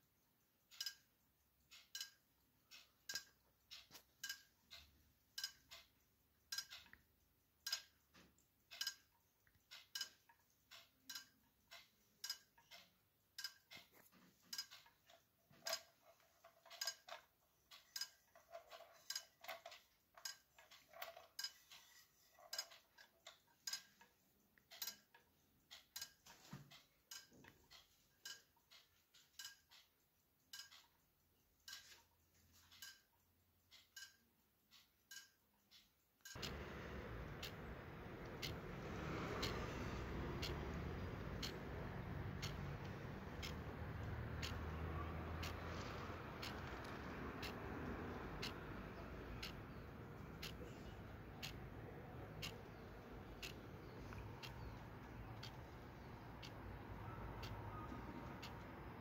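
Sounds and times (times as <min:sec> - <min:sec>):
wall clock ticking: 0:00.0 - 0:59.0.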